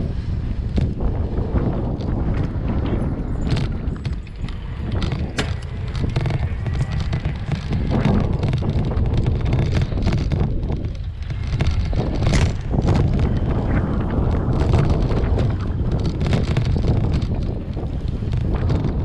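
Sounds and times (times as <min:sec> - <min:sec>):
low rumble of bicycle ride: 0:00.0 - 0:19.0
wind buffeting microphone: 0:00.0 - 0:19.0.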